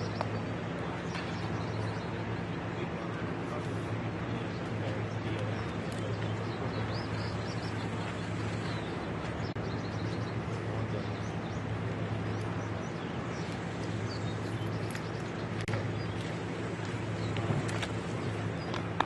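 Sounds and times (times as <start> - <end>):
birds chirping: 0.0 - 19.0
low mechanical hum: 0.0 - 19.0.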